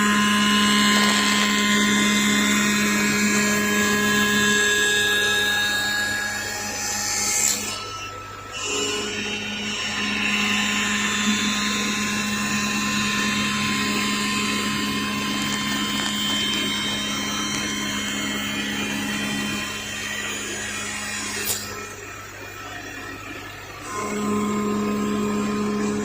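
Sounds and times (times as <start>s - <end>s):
power tool machining metal: 0.0s - 26.0s.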